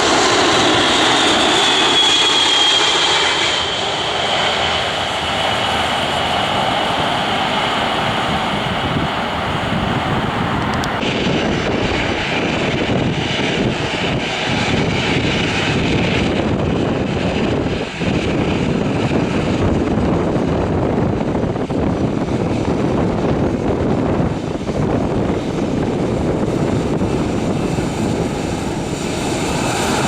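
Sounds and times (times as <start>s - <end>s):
airliner engines running: 0.0s - 30.0s
wind on microphone: 0.0s - 30.0s.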